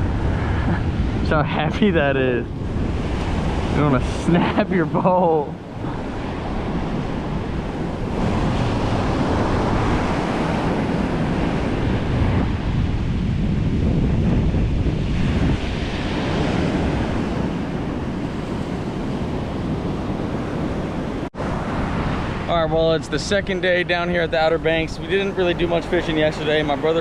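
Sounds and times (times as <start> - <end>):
ocean surf breaking on beach: 0.0 - 27.0
wind buffeting microphone: 0.0 - 27.0.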